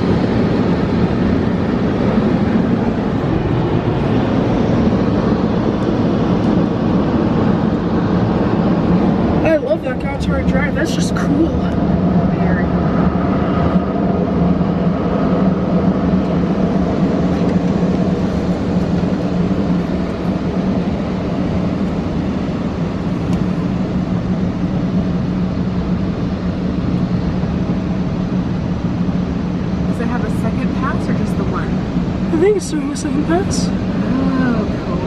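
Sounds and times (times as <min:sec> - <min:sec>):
strong low hum: 0:00.0 - 0:35.0.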